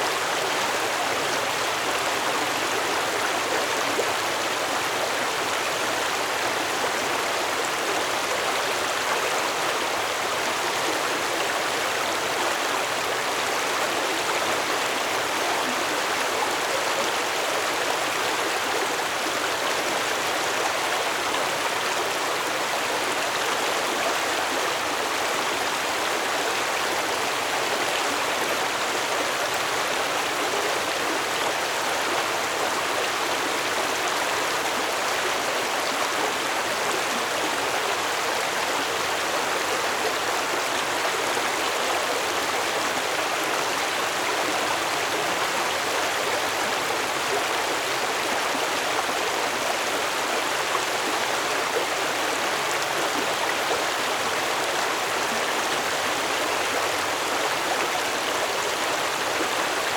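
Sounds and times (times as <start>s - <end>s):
stream water flowing and splashing: 0.0s - 59.9s.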